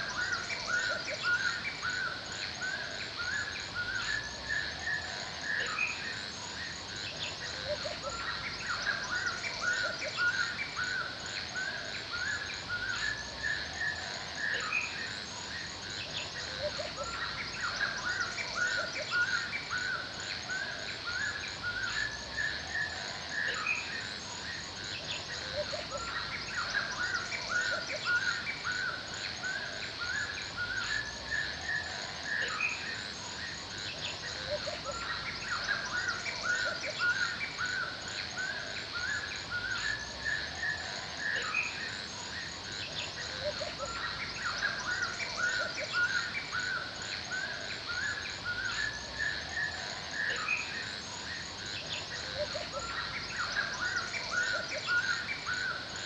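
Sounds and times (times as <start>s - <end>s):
birds chirping and singing: 0.0s - 56.0s
high insect drone: 0.0s - 56.0s.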